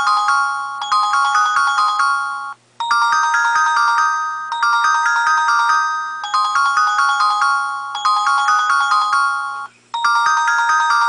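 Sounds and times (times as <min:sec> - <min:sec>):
mobile phone ringtone melody: 0:00.0 - 0:11.0.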